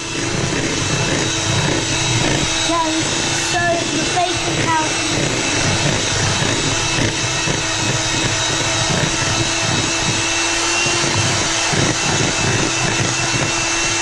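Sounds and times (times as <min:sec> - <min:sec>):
electric hand mixer whining: 0:00.0 - 0:14.0.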